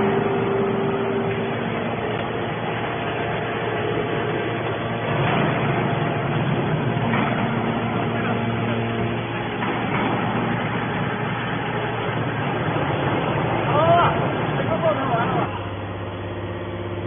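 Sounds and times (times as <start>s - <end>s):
hydraulic baler humming: 0.0s - 17.0s.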